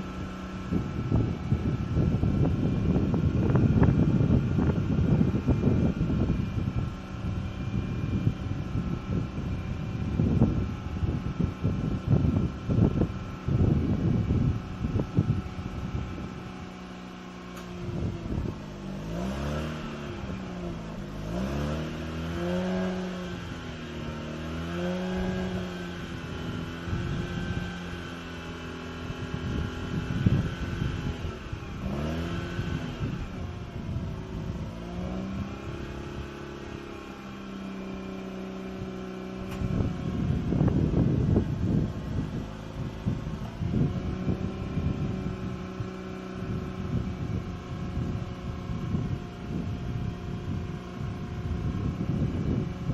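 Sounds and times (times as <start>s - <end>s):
rotary engine revving: 0.0s - 52.9s
wind buffeting microphone: 0.0s - 52.9s.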